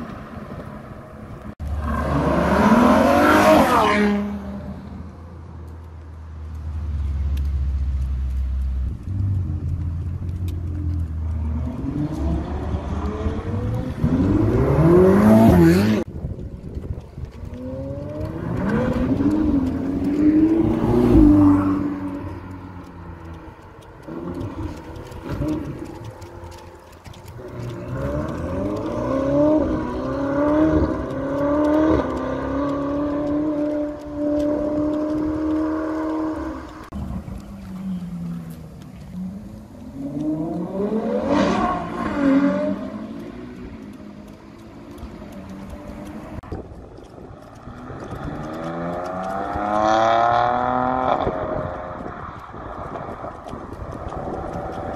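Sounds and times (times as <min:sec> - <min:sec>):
car engine rumbling: 0:00.0 - 0:54.9.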